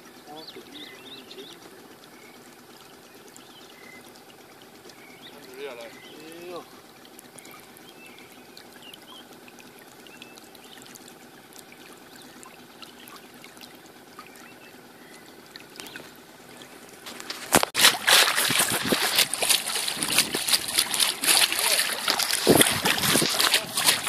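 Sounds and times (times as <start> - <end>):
water trickling and lapping: 0.0 - 24.0
loud water splashing: 3.4 - 24.0.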